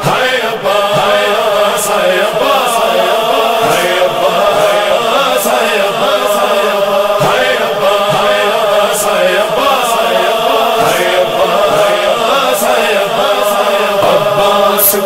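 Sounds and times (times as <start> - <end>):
voices chanting a lament: 0.0 - 15.0.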